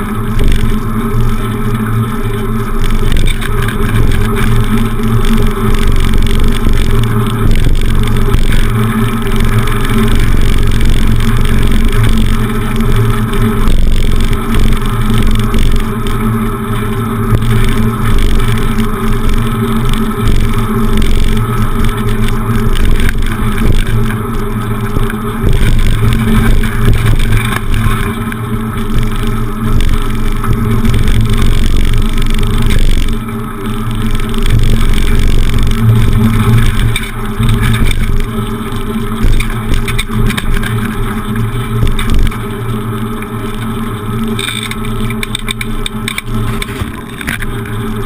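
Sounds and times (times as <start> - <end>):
road noise: 0.0 - 48.0.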